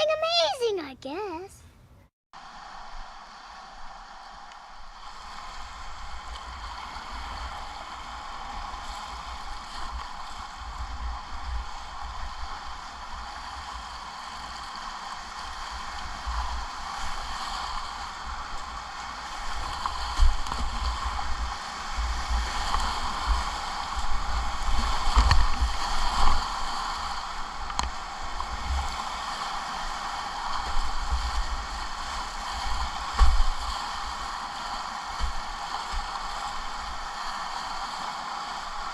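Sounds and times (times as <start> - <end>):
rushing whitewater: 2.4 - 38.9.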